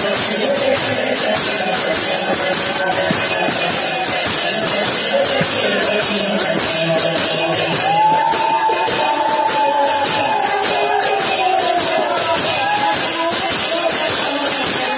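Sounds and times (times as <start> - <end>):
drumming: 0.0 - 14.9
hand cymbals clashing: 0.0 - 14.9.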